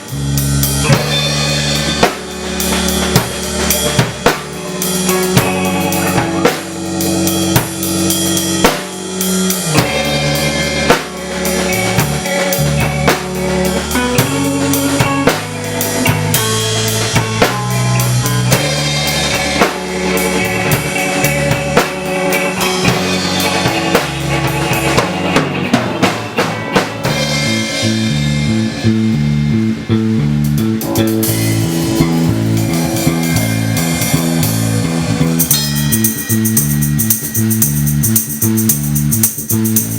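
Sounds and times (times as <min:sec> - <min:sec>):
music with drum kit beat: 0:00.0 - 0:39.9.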